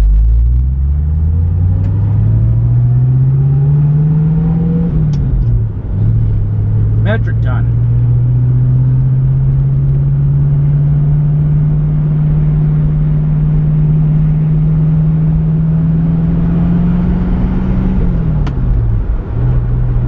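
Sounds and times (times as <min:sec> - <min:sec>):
car engine revving while driving: 0:00.0 - 0:20.0.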